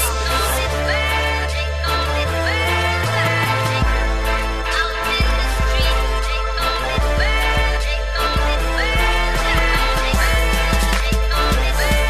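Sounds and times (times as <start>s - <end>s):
bass-heavy music with drum beat: 0.0s - 12.0s.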